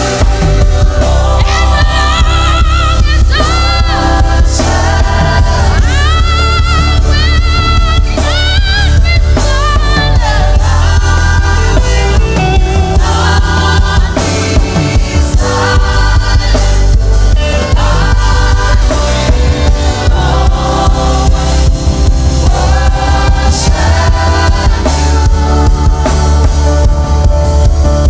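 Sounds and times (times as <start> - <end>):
band with drums: 0.0 - 28.0
choir singing gospel music: 0.0 - 28.0.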